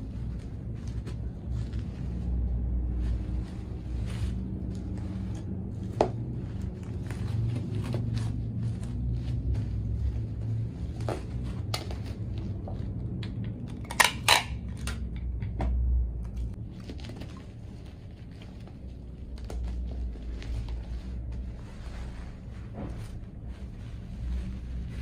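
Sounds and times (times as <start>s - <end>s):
bubble wrap crinkling: 0.0s - 13.1s, 16.5s - 25.0s
steady low hum: 0.0s - 25.0s.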